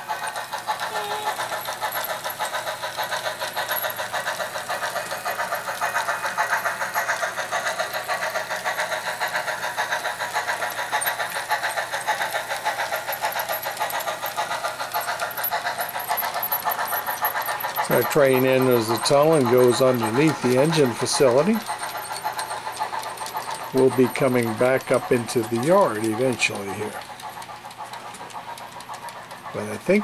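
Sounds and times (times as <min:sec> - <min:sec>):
model steam locomotive running: 0:00.0 - 0:30.0.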